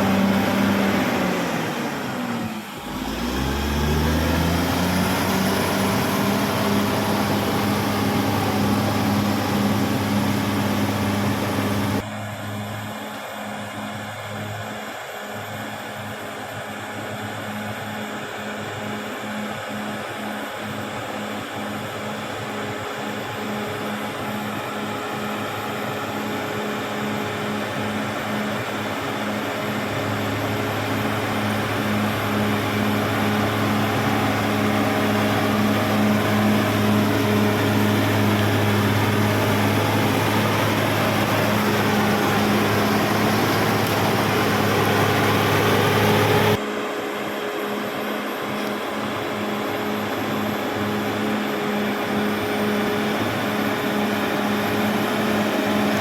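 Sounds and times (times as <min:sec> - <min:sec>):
bulldozer diesel engine running: 0:00.0 - 0:12.8, 0:18.7 - 0:56.0.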